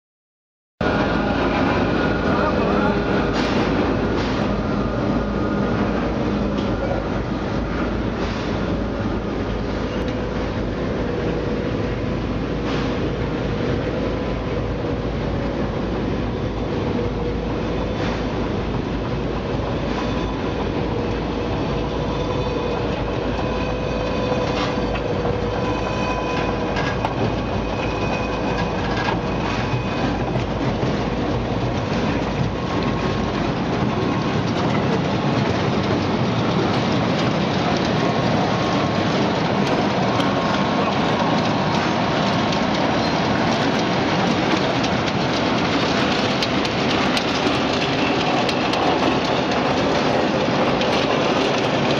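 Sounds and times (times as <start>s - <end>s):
machinery rattle and hum: 0.8s - 51.9s.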